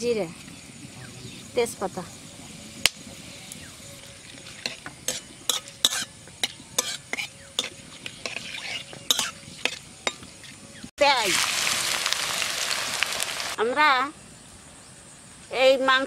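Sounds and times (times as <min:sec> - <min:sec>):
spices sizzling in oil: 0:00.0 - 0:13.6.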